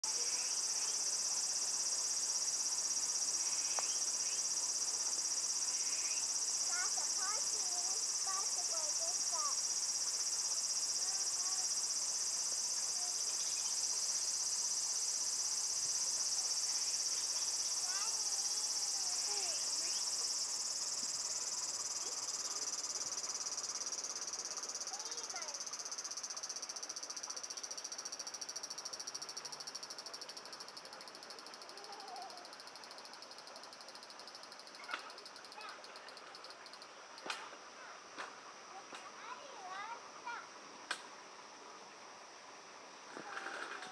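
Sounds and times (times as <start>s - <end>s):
cicadas singing: 0.0s - 43.9s.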